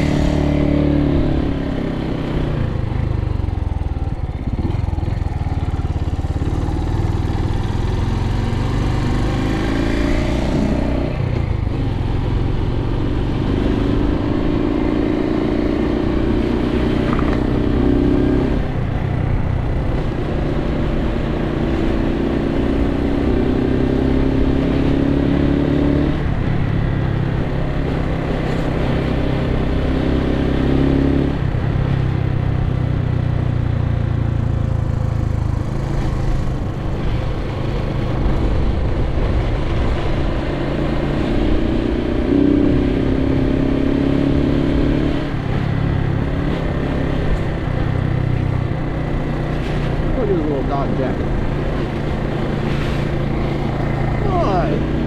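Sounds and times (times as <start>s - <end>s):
motorcycle engine revving: 0.0s - 33.6s, 34.3s - 55.0s.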